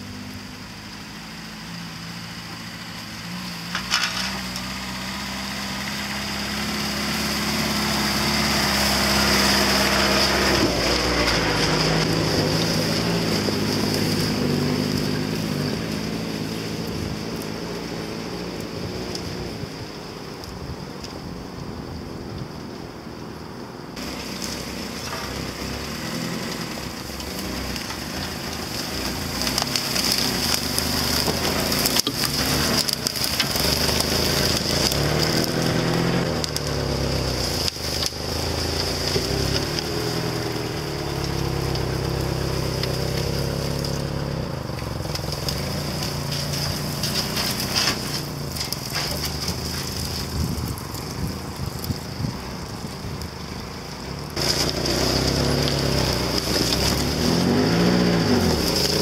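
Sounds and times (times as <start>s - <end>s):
car engine running under load: 0.0s - 59.0s
twigs crackling under tyres: 0.0s - 59.0s.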